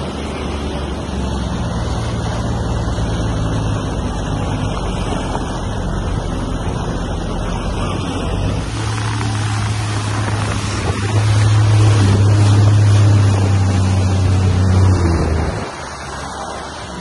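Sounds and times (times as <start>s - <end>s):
jet ski engine running: 0.0s - 17.0s
water hissing along hull: 0.0s - 17.0s.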